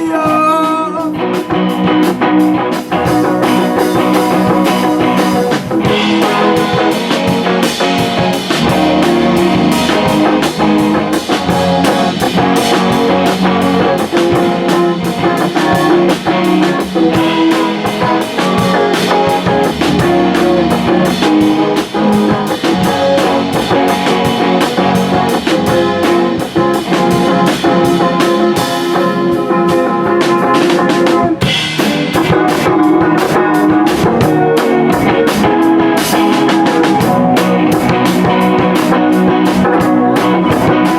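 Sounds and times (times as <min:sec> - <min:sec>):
drum kit beat: 0:00.0 - 0:40.9
electric guitar: 0:00.0 - 0:40.9.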